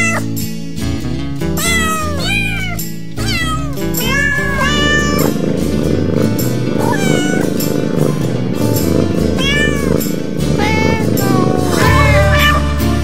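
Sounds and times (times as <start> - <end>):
kittens meowing: 0.0 - 0.4, 1.6 - 12.9
background music: 0.0 - 13.0.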